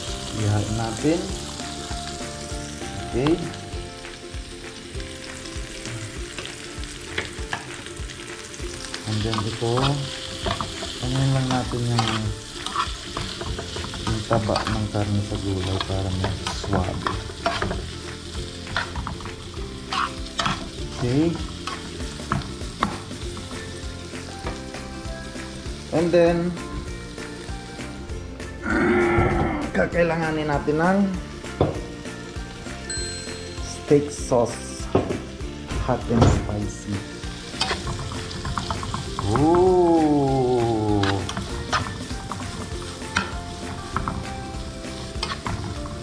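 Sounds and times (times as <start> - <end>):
vegetables sizzling in oil: 0.0 - 46.0.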